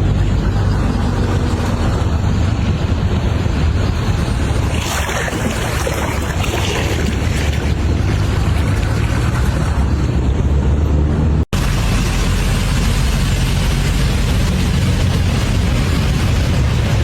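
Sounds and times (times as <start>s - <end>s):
water rushing and splashing: 0.0s - 10.8s, 11.6s - 17.0s
vehicle rumbling: 0.0s - 17.0s.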